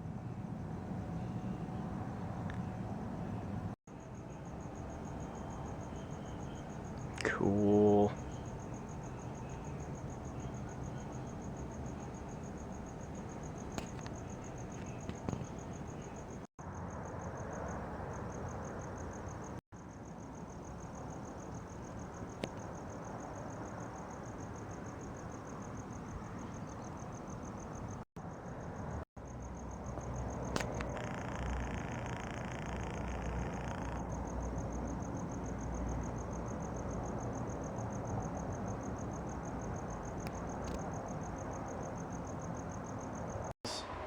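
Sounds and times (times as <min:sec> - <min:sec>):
cricket chirping: 0:00.2 - 0:44.0.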